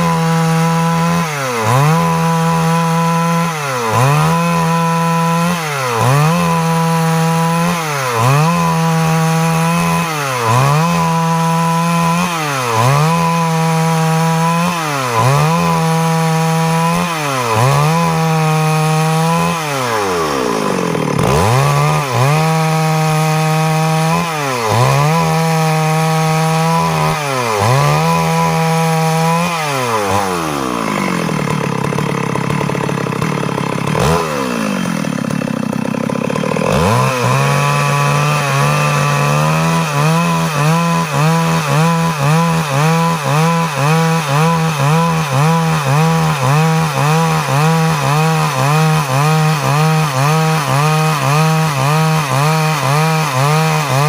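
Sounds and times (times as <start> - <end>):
chainsaw sawing wood: 0.0 - 54.0.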